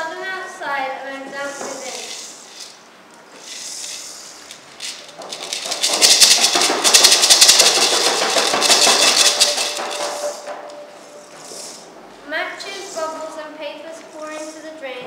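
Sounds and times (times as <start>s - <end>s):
shakers rattling: 1.4s - 12.0s, 12.6s - 14.8s.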